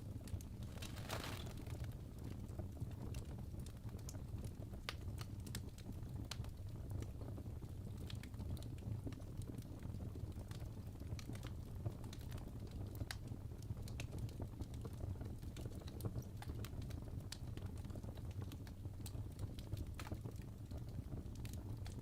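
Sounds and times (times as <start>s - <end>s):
logs crackling and popping: 0.0s - 22.0s
low rumble of flames: 0.0s - 22.0s.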